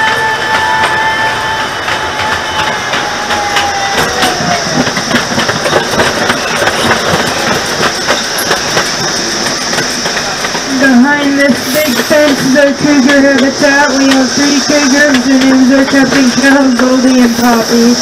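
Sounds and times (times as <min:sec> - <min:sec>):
wheels clicking over rail joints: 0:00.0 - 0:17.8
train engine humming: 0:00.0 - 0:18.0.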